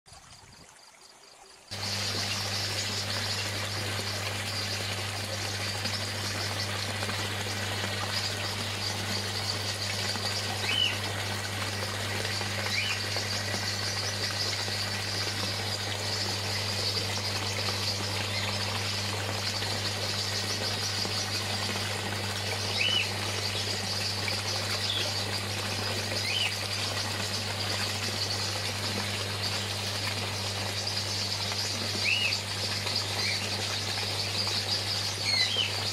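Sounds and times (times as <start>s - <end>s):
hiss of moving water: 1.7s - 35.9s.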